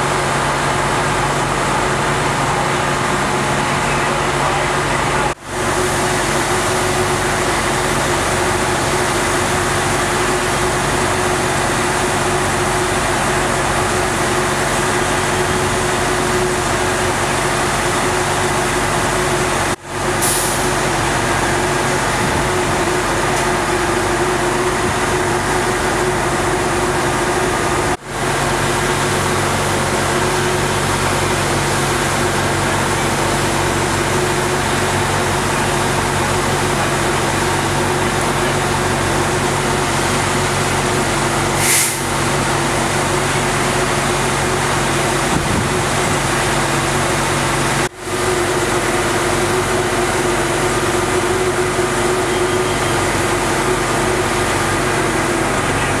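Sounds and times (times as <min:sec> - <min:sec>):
diesel engine idling: 0:00.0 - 0:56.0
ventilation fan running: 0:00.0 - 0:56.0.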